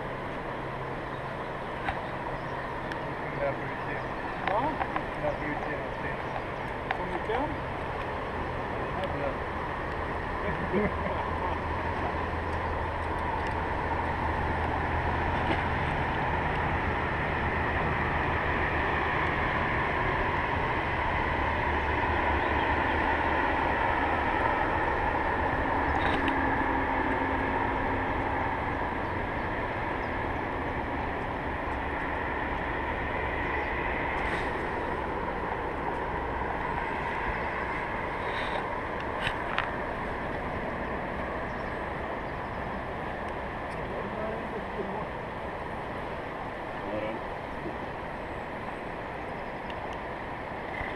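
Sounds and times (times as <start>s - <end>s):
river rapid roaring: 0.0s - 50.9s.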